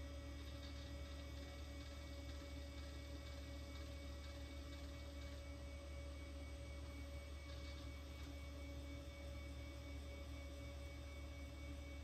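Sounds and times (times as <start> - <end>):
computer fan and hard drive hum: 0.0 - 12.0
faint thin whine: 0.0 - 12.0.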